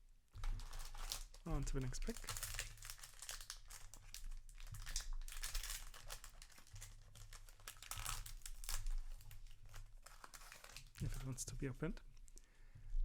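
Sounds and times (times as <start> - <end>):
plastic wrapper crinkling and tearing: 0.3 - 11.6.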